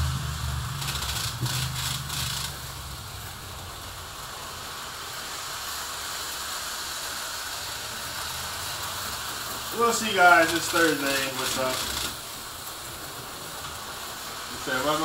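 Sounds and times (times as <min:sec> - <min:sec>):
model train motor hum: 0:00.0 - 0:15.0
steady hiss: 0:00.0 - 0:15.0.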